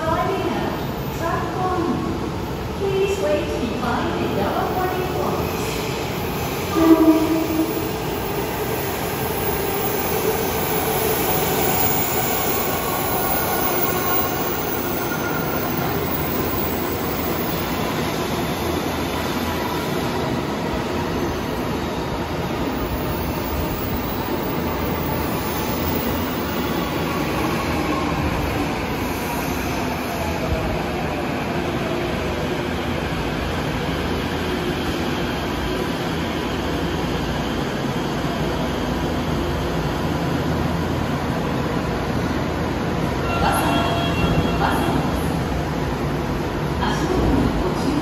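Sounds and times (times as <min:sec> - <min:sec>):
subway train braking: 0:00.0 - 0:48.0.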